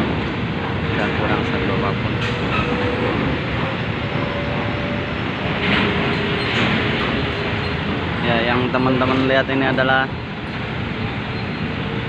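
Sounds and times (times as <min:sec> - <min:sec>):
ferry mechanical rumble: 0:00.0 - 0:12.0
vehicles rolling over steel ramp: 0:00.0 - 0:12.0.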